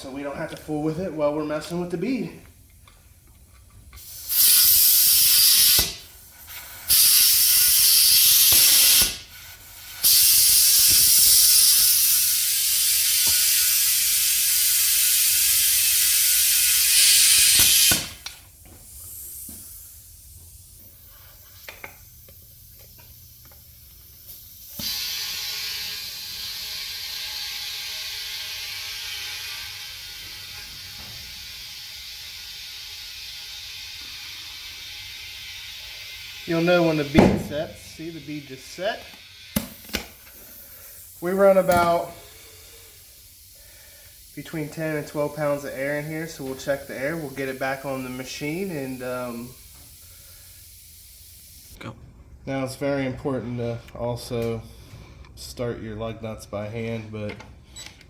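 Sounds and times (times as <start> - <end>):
compressed air hissing into tire: 3.9 - 51.8.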